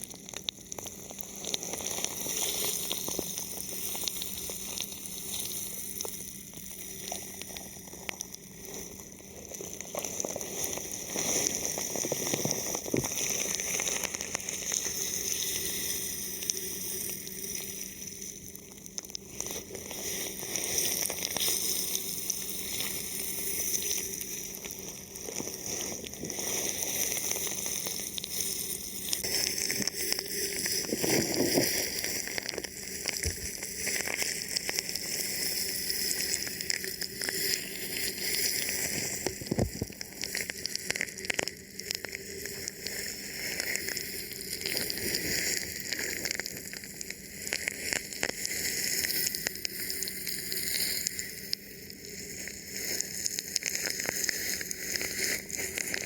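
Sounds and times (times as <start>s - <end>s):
plastic film crinkling on microphone: 0.0s - 56.0s.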